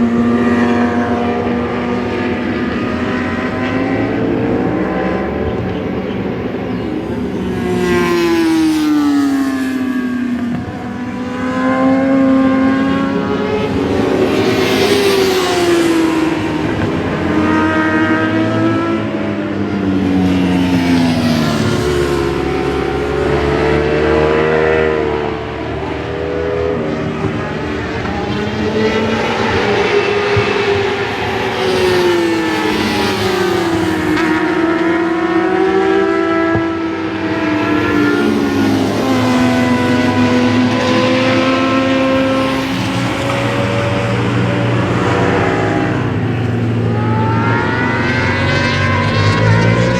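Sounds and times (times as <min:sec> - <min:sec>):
engines revving through gear changes: 0:00.0 - 0:49.9
racing motorcycles passing: 0:00.0 - 0:49.9.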